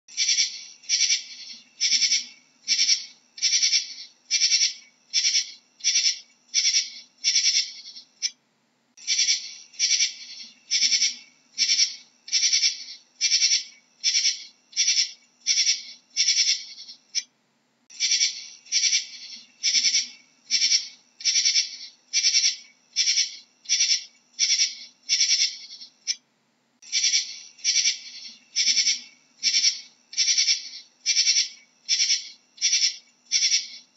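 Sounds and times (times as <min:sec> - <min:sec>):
katydid chirping: 0:00.1 - 0:08.4, 0:09.0 - 0:17.3, 0:17.9 - 0:26.2, 0:26.8 - 0:33.9.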